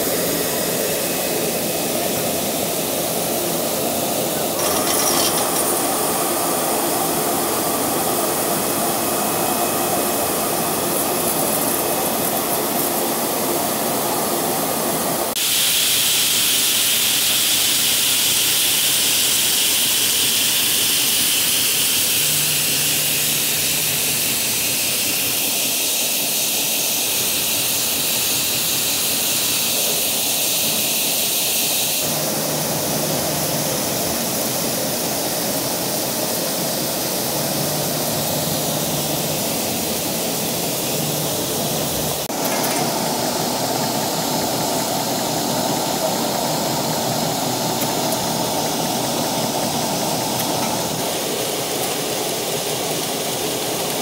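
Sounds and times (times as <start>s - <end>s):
machine running with hiss: 0.0s - 54.0s.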